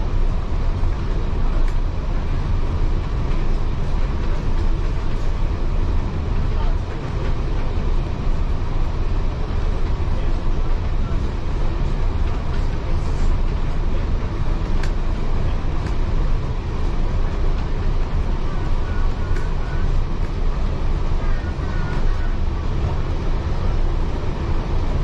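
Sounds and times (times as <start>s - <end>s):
train carriage rumble: 0.0s - 25.0s.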